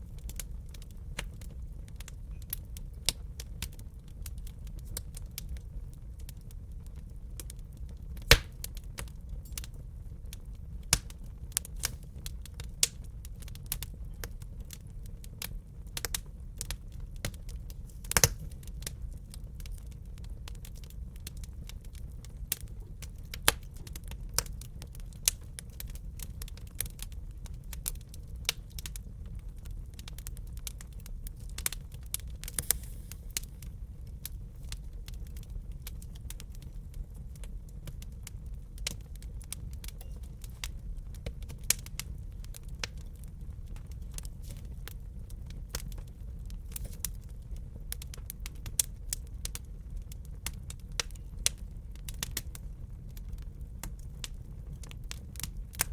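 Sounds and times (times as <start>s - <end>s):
low rumble of burning: 0.0s - 55.9s
wood fire crackling and popping: 0.0s - 55.9s.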